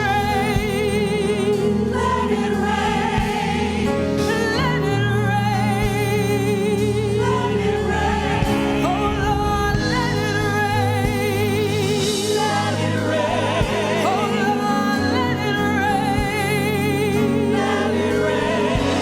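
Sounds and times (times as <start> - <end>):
choir singing gospel song: 0.0 - 19.0
steady bass: 0.0 - 19.0.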